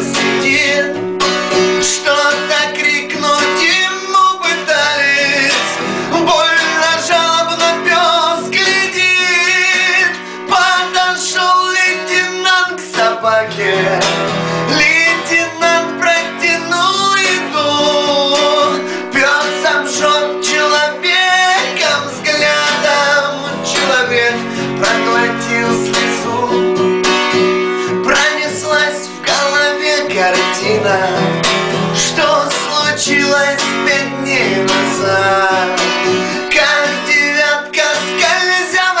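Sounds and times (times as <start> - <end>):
acoustic guitar strumming: 0.0 - 39.0
man singing: 0.0 - 39.0.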